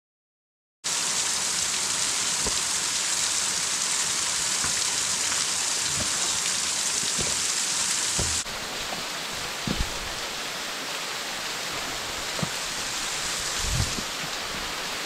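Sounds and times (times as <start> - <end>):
waterfall rushing: 0.9 - 15.0.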